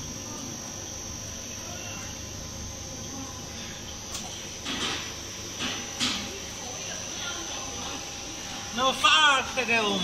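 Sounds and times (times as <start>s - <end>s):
extruder machine hum: 0.0s - 10.0s
high-pitched machine whine: 0.0s - 10.0s.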